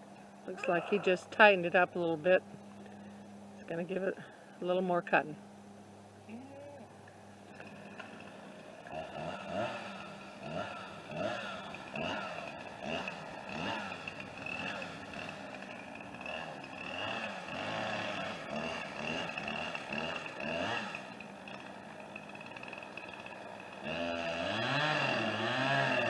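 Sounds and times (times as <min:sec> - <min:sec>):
distant chainsaw cutting wood: 0:00.0 - 0:05.2, 0:06.8 - 0:26.0.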